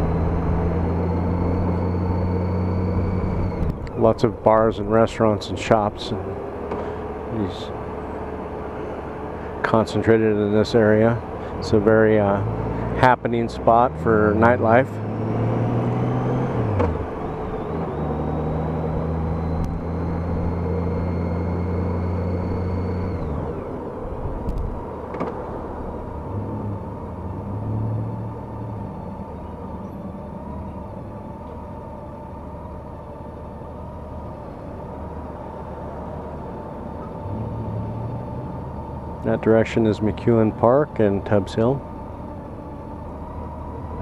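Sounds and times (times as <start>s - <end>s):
faint rising whine: 0.0s - 9.6s, 14.2s - 44.0s
motorcycle engine droning: 0.0s - 44.0s.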